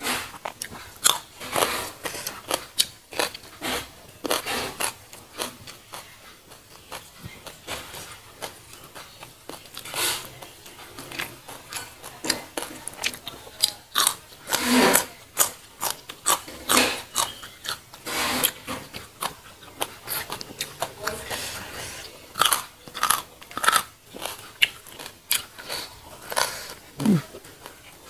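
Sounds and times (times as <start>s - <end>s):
chewing crunchy vegetables: 0.0s - 28.0s.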